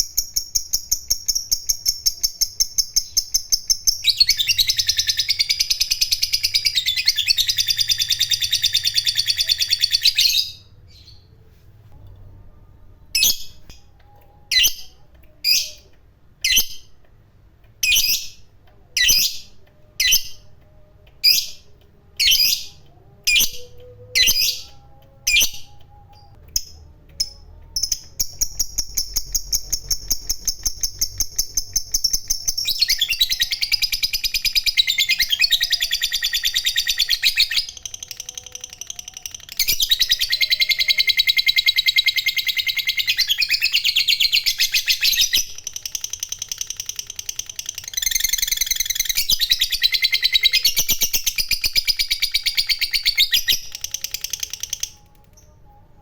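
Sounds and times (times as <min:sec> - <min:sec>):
bird chirping: 0:00.0 - 0:11.6, 0:17.8 - 0:56.0.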